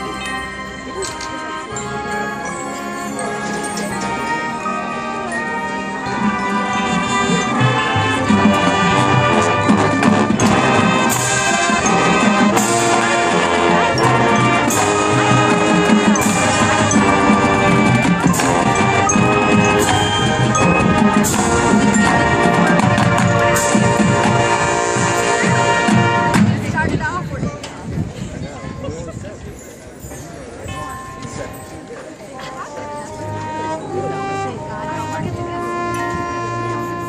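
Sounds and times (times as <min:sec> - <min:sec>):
marching band playing: 0:00.0 - 0:27.2, 0:30.8 - 0:37.0.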